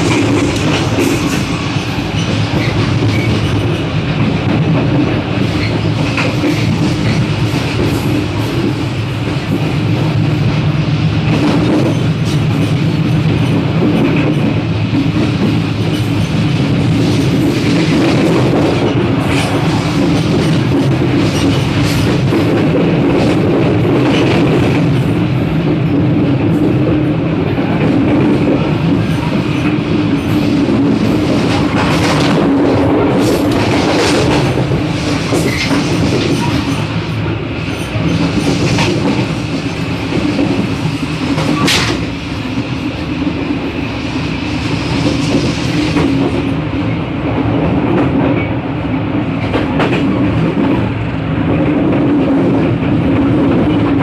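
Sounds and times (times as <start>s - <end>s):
clacks over rail joints: 0.0s - 10.6s, 11.2s - 27.0s, 27.6s - 42.1s, 45.0s - 54.0s
train wheels rumbling on rail: 0.0s - 54.0s.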